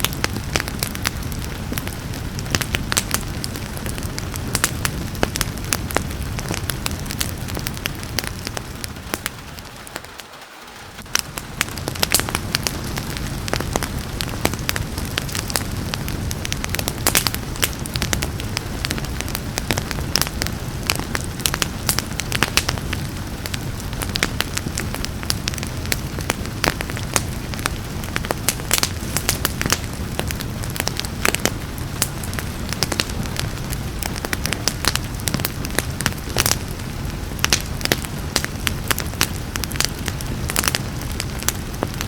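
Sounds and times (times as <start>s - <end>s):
soft rain hiss: 0.0s - 42.0s
wood fire crackling: 0.0s - 42.0s.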